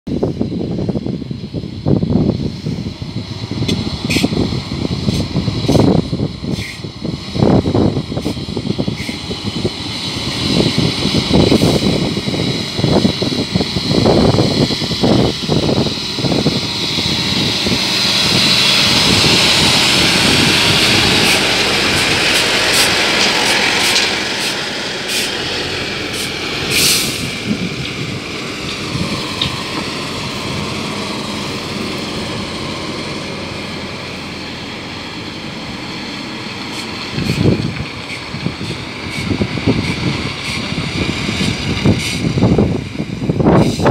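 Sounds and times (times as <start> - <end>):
truck engine passing: 0.2 - 43.9.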